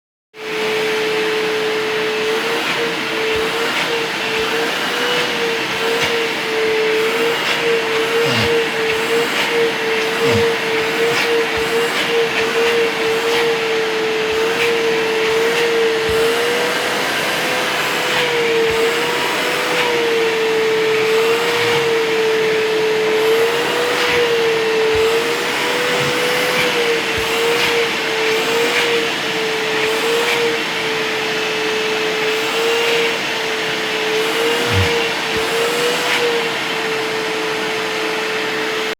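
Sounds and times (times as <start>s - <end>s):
vacuum cleaner running: 0.4s - 38.9s.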